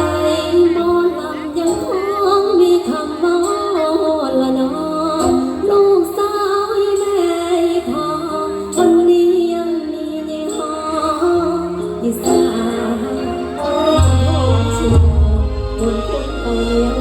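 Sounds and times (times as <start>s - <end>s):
musical accompaniment: 0.0s - 17.0s
woman singing ornamented melody: 0.0s - 17.0s.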